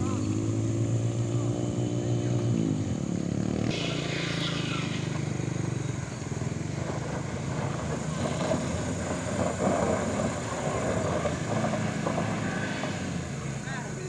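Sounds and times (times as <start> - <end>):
motorcycle engines: 0.0 - 14.0
pickup engine running under load: 0.0 - 14.0.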